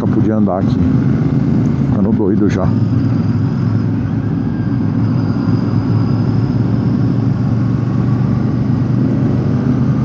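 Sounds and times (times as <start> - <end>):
motorcycle engine running: 0.0 - 10.0
road noise: 0.0 - 10.0
wind noise: 0.0 - 10.0.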